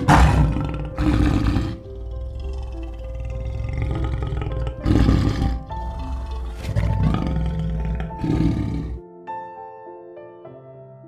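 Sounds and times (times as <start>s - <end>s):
leopard rasping calls: 0.0s - 9.0s
background music: 0.0s - 11.0s.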